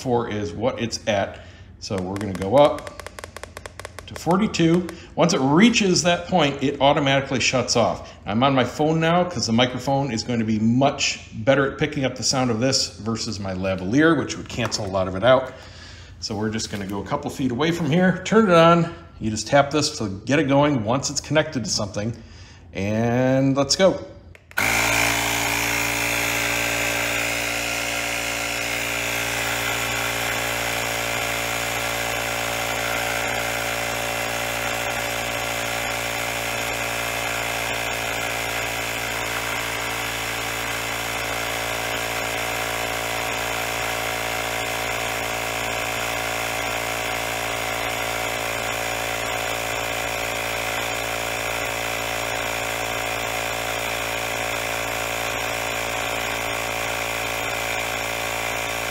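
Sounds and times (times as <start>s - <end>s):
tire inflator compressor running: 0.0s - 58.9s.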